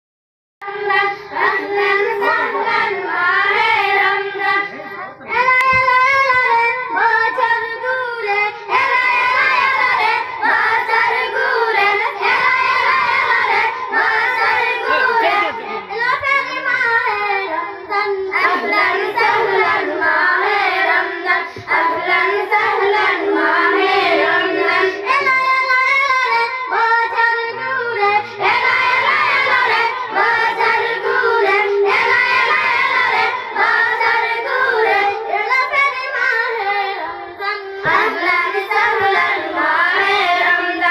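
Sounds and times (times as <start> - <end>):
girls singing devotional song: 0.6 - 40.9.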